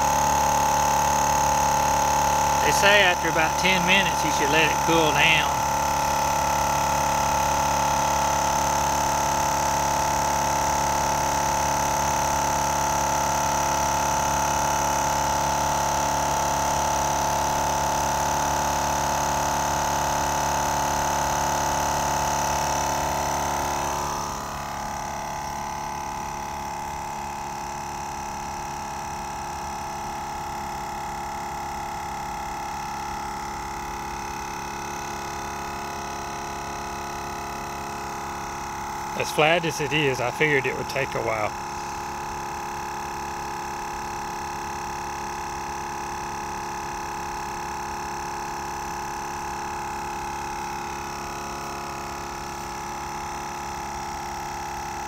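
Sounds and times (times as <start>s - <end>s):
portable air compressor running: 0.0s - 55.0s.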